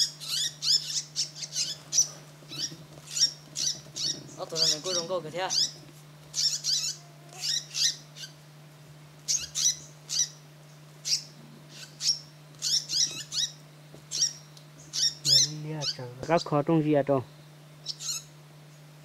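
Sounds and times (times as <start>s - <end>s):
small bird chirping: 0.0s - 8.4s, 9.2s - 16.3s, 17.4s - 18.9s.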